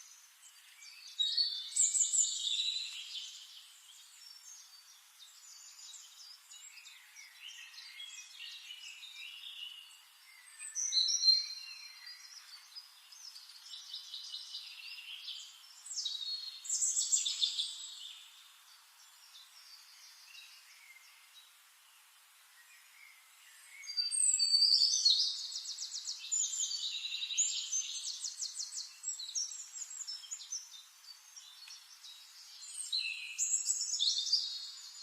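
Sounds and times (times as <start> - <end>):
birds singing and chirping: 0.0 - 21.6, 22.5 - 35.0.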